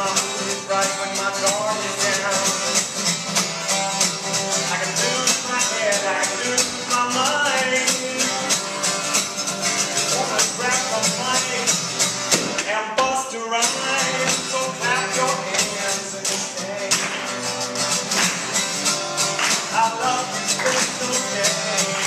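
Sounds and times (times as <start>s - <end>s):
acoustic guitar strummed fast: 0.0s - 22.0s.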